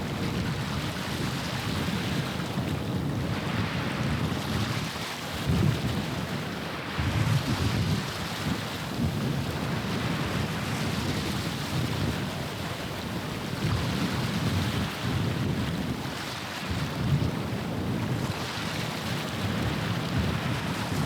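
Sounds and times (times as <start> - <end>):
water and waves: 0.0 - 21.0
wind buffeting microphone: 0.0 - 21.0.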